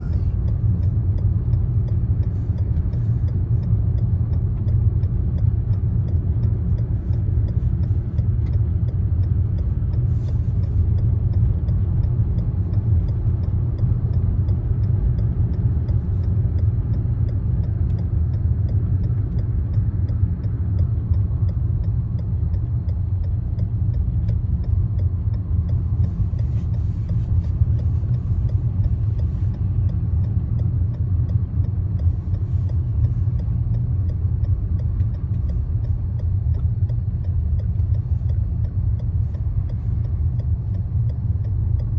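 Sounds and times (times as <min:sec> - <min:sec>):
car road and engine rumble: 0:00.0 - 0:41.9
faint regular ticking: 0:00.0 - 0:41.9.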